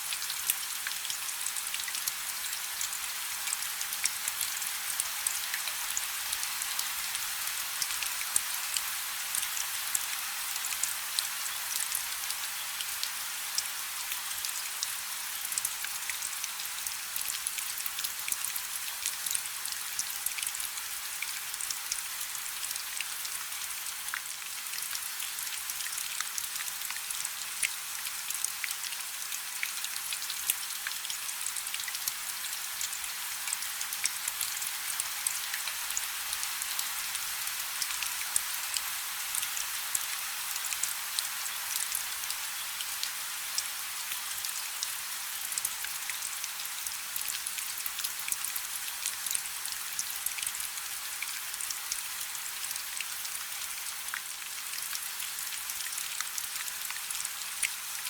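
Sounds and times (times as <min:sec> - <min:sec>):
rain falling on water: 0:00.0 - 0:58.0.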